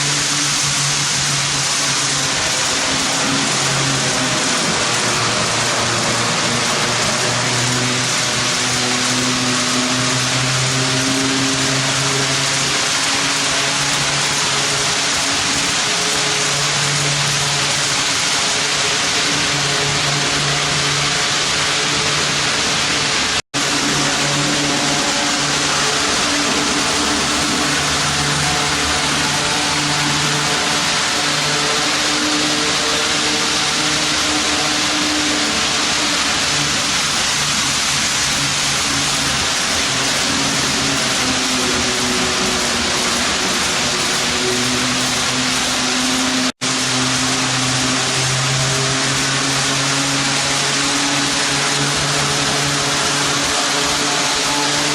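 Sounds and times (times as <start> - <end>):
model train wheels hissing: 0.0 - 54.9.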